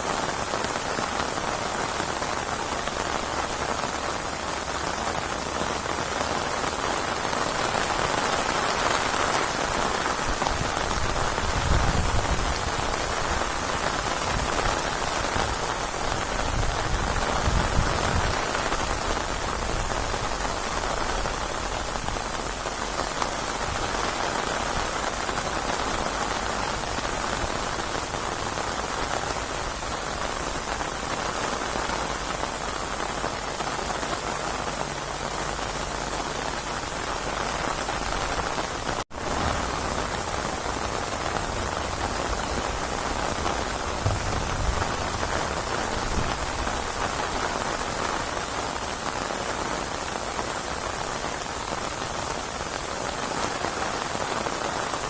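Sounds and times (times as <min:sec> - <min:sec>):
rain hissing on surfaces: 0:00.0 - 0:55.0.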